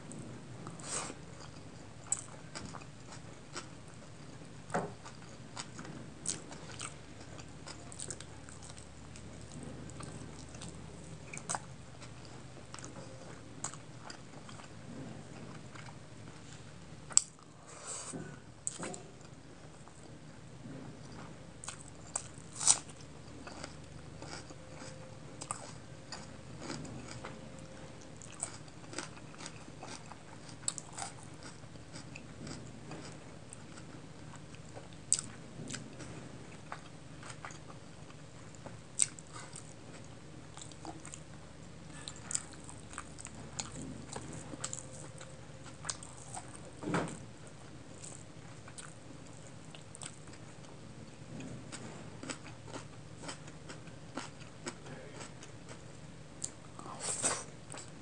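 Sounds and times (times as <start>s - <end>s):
chewing: 0.2s - 17.5s, 21.0s - 58.0s.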